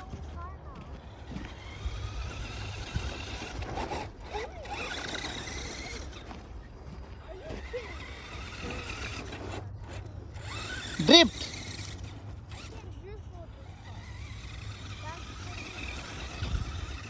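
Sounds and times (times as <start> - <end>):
electric toy car motors whining: 0.7 - 17.0.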